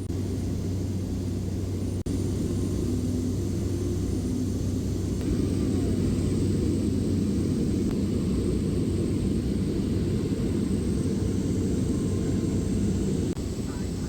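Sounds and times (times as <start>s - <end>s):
propeller airplane droning: 0.0s - 14.0s.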